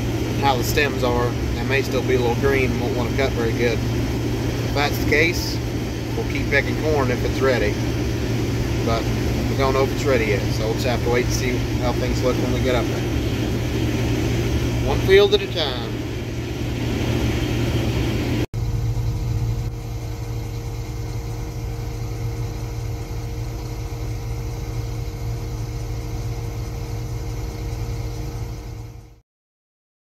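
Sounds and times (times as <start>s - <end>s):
combine harvester droning: 0.0s - 29.2s.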